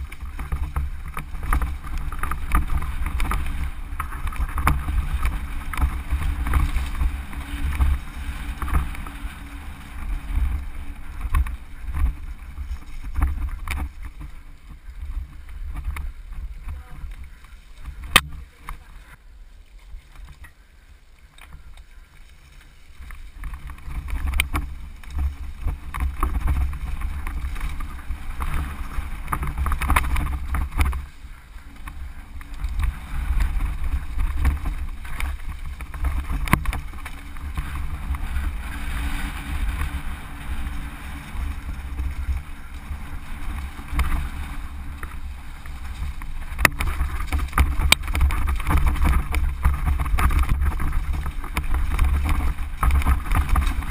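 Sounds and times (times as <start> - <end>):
wind buffeting microphone: 0.0 - 19.2, 23.0 - 53.9
bike rattling over stones: 0.0 - 53.9.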